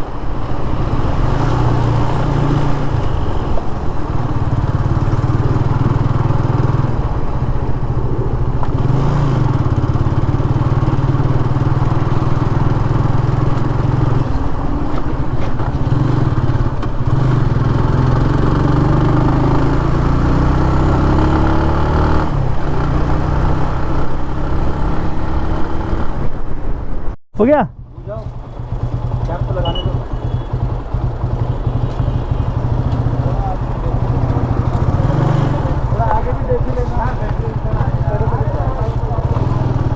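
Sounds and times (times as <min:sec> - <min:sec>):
motorcycle engine running: 0:00.0 - 0:26.5, 0:27.7 - 0:39.9.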